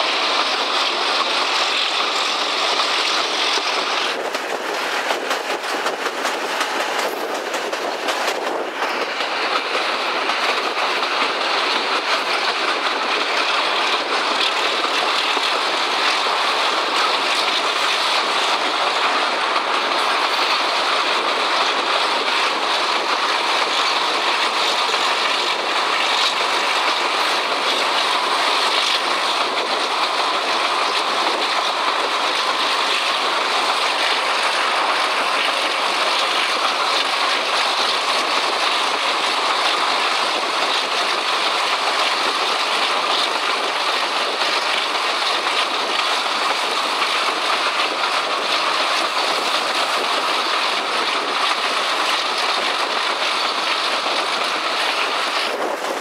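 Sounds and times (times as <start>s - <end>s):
diesel locomotive engine: 0.0s - 56.0s
rushing wind: 0.0s - 56.0s
wheels on rails: 0.0s - 56.0s.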